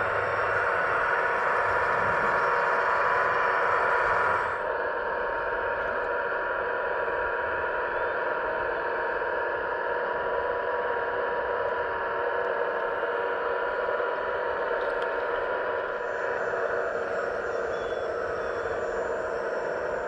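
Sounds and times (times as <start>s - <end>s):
electric motors and pump whining: 0.0s - 20.0s.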